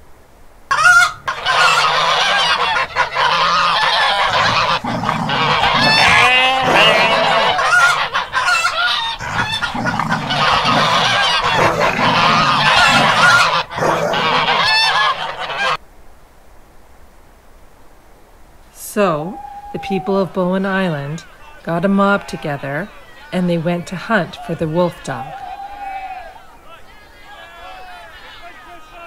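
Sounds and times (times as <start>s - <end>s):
chickens calling loudly: 0.7s - 15.8s, 18.9s - 29.0s.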